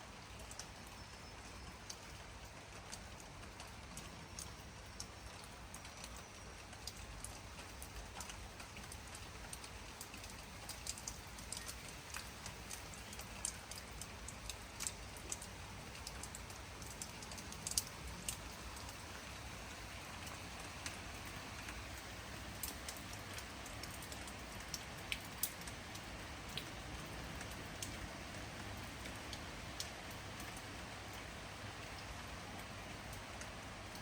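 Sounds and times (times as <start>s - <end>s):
rain falling: 0.0s - 34.0s.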